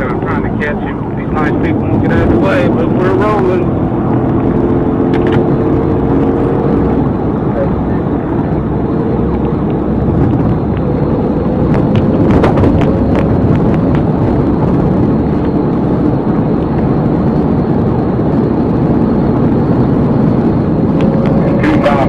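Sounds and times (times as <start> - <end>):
road wind and engine noise: 0.0 - 22.0.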